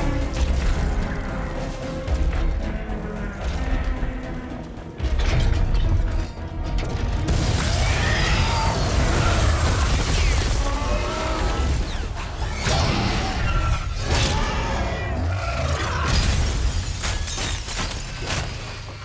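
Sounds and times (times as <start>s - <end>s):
crashing impacts and debris: 0.0s - 2.8s, 5.0s - 14.7s, 15.9s - 19.0s
orchestral music: 0.0s - 15.3s.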